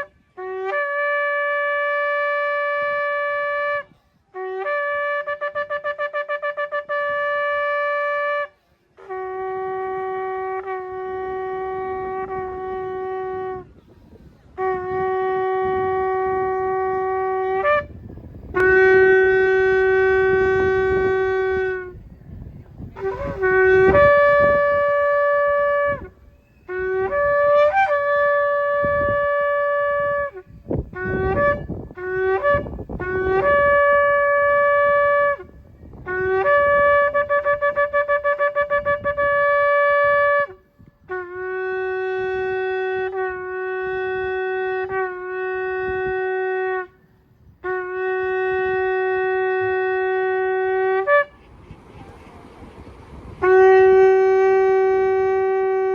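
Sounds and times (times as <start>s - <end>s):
shofar blasts: 0.0s - 13.8s, 14.5s - 22.2s, 22.8s - 52.1s, 53.1s - 55.9s.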